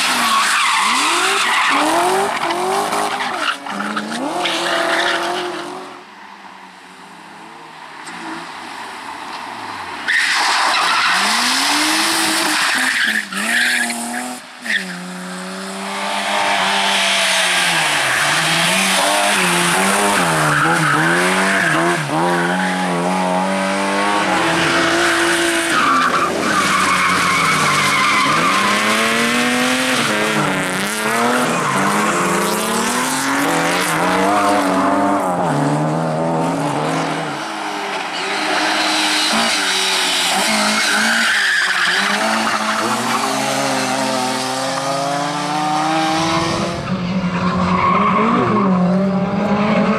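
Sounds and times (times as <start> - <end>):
rally car engine revving: 0.0 - 5.9, 10.9 - 49.9.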